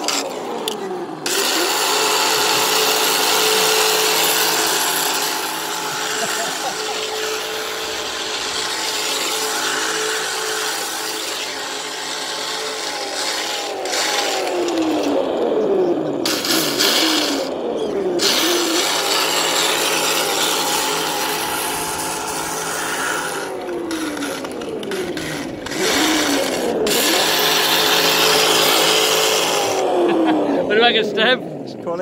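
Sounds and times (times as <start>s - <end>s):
electric toy car motor whining: 0.0s - 30.5s
wheels spinning with hiss: 0.0s - 30.5s.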